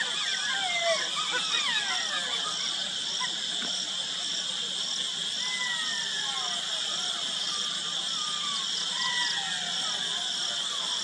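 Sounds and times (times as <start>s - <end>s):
jackals howling: 0.0s - 3.4s, 5.4s - 11.0s
insect calls: 0.0s - 11.0s.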